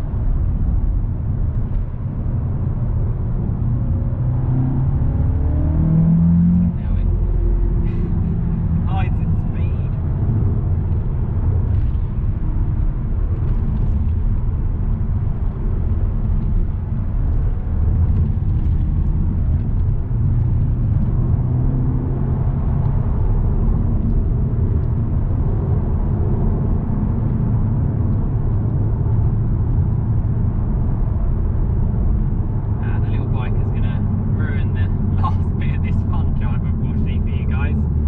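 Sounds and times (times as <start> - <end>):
road and tyre rumble: 0.0 - 38.0
car engine running: 5.0 - 38.0.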